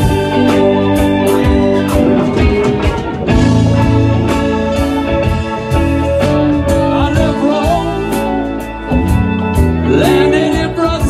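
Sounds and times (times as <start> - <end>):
lead guitar: 0.0 - 11.0
live band playing: 0.0 - 11.0.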